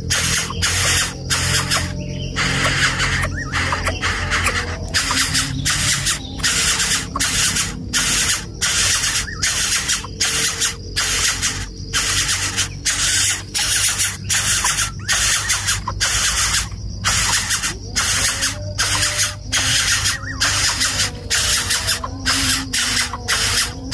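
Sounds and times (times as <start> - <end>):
bird nestling hissing calls: 0.0 - 23.9.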